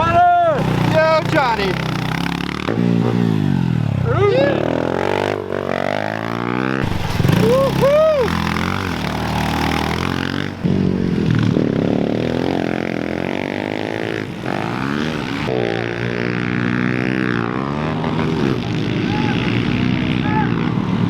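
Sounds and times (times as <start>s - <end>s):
pit bike engines racing: 0.0s - 21.0s.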